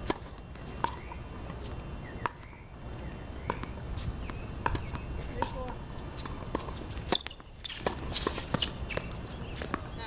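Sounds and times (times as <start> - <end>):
tennis ball bouncing on hard court: 0.0 - 2.6, 3.4 - 10.0.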